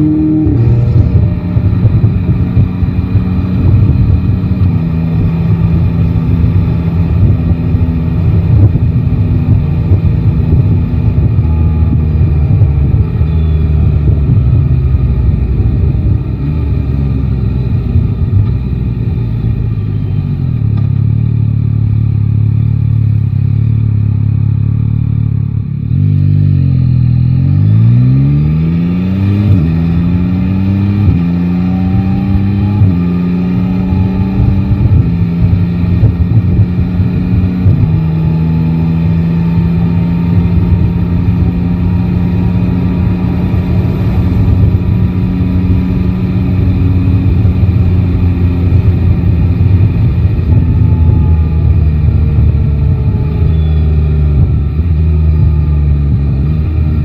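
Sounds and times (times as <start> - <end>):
motorcycle accelerating through gears: 0.0 - 57.0.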